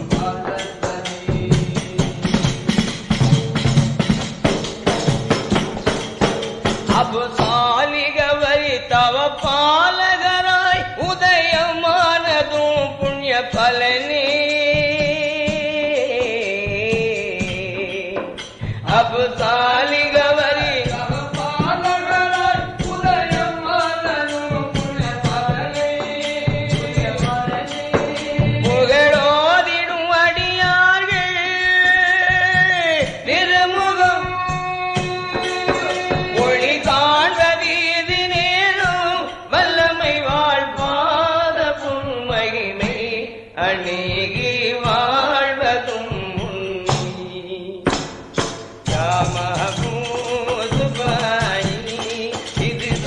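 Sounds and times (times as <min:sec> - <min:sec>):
drum beats: 0:00.0 - 0:53.0
ornamented devotional song melody: 0:00.0 - 0:53.0.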